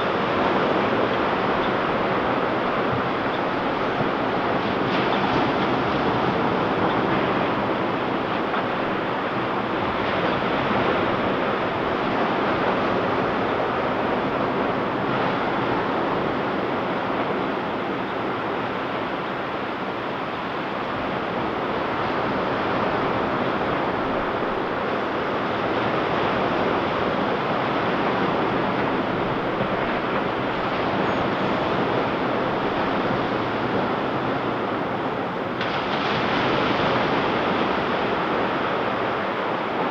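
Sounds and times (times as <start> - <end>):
waves washing on beach: 0.0 - 39.9.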